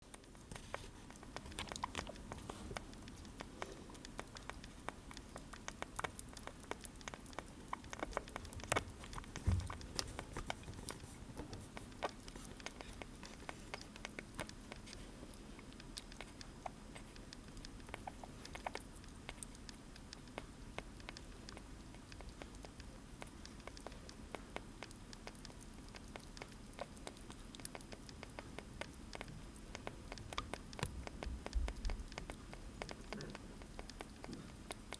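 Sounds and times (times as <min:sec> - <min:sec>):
small animal chewing clicks: 0:00.0 - 0:34.9.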